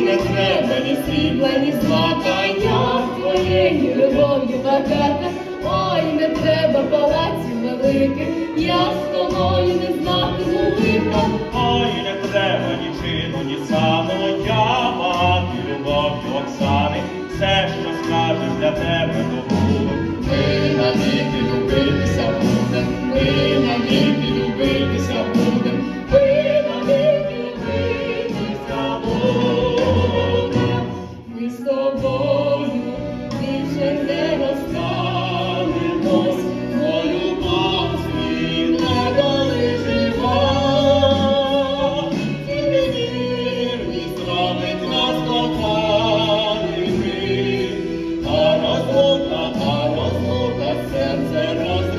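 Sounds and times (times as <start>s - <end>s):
song performance with singing: 0.0s - 51.9s.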